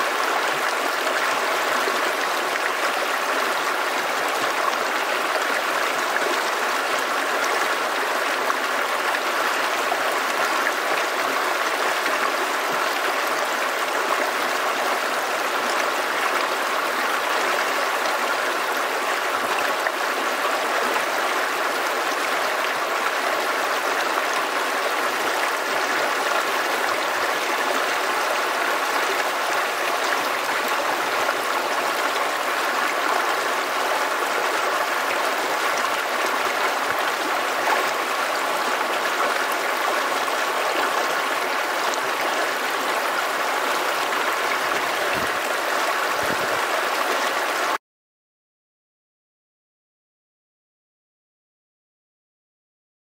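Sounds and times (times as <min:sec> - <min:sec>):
creek babbling over rocks: 0:00.0 - 0:47.8.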